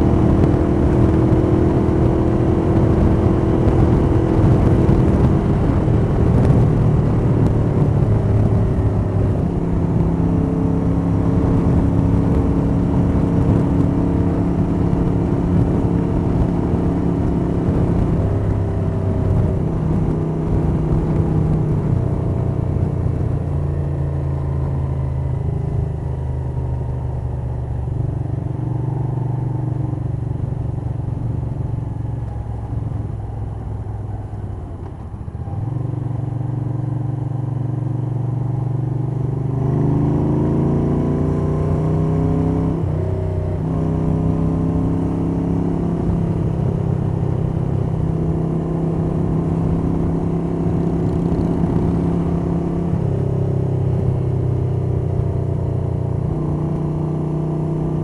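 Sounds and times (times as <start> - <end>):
motorcycle engine running: 0.0 - 58.0
wind noise: 0.0 - 58.0.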